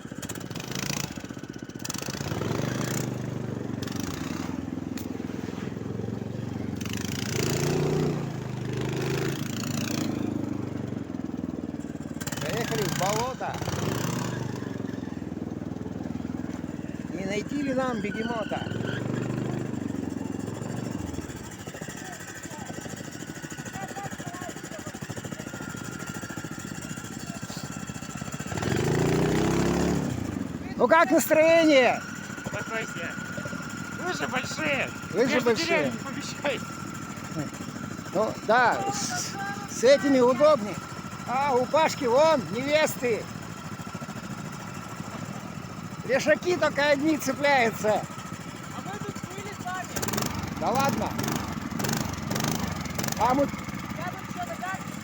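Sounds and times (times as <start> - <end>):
snowmobile engine revving: 0.3 - 11.3, 12.2 - 43.3, 44.5 - 55.0.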